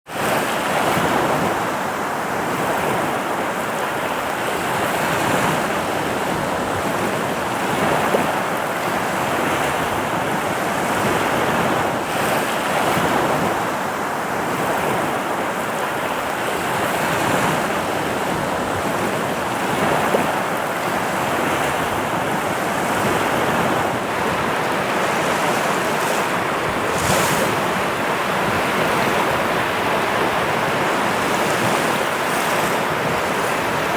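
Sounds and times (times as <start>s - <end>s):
sea waves breaking on beach: 0.1s - 33.9s.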